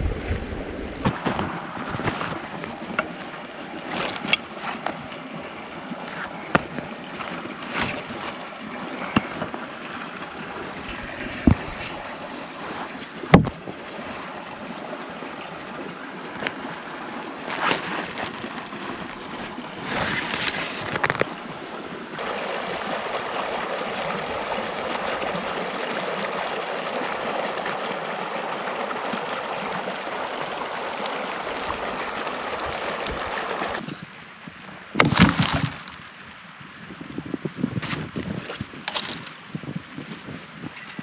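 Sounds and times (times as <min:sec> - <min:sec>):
stream water rushing: 0:00.0 - 0:41.0.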